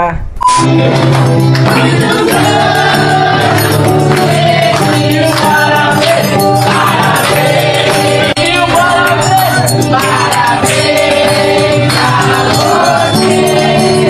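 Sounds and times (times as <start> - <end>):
instrumental backing: 0.3 - 14.0
group singing gospel: 0.5 - 14.0
hand-clapping or tambourine beat: 0.6 - 14.0.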